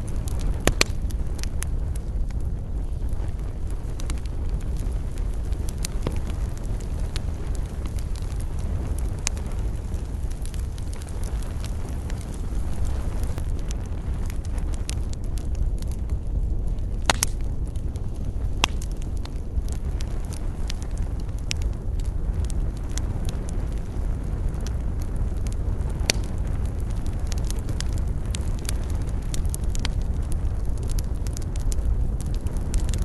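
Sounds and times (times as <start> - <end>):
campfire crackling and popping: 0.0 - 33.0
low rumble: 0.0 - 33.0.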